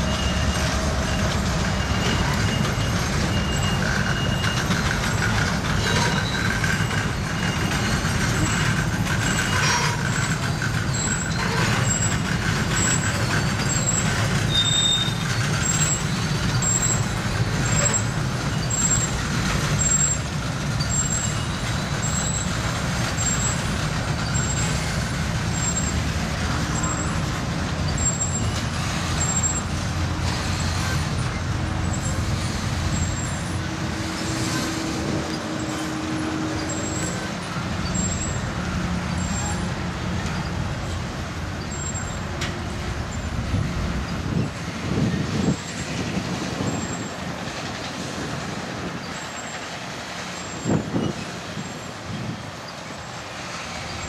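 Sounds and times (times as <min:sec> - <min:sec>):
freight train rumbling past: 0:00.0 - 0:54.0
train wheel squeal: 0:00.0 - 0:54.0.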